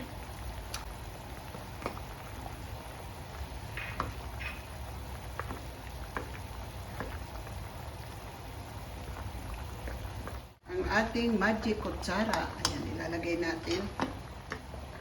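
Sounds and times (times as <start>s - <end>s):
stew boiling and bubbling: 0.0s - 15.0s.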